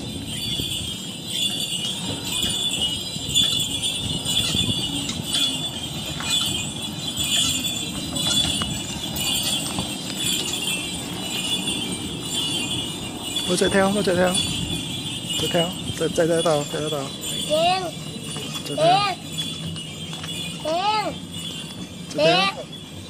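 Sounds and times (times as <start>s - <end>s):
jingling bells: 0.0s - 23.0s
tram rumbling on rails: 0.0s - 23.0s.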